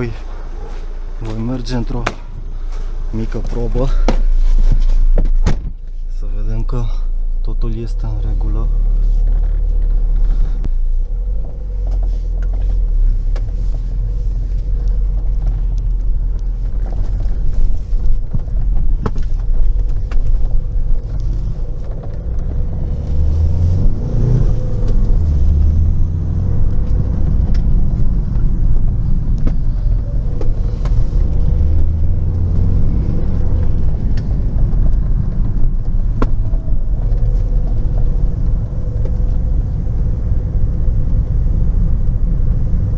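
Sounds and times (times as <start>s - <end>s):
diesel car engine rumble: 0.0s - 42.9s
road noise: 0.0s - 42.9s.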